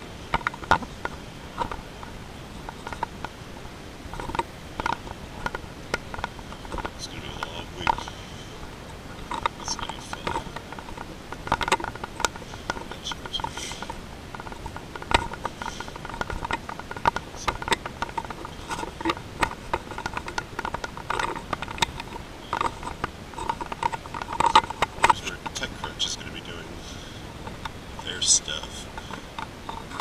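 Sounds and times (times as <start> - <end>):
camera handling clicks and rattles: 0.3 - 3.4, 4.1 - 26.6, 27.4 - 30.0.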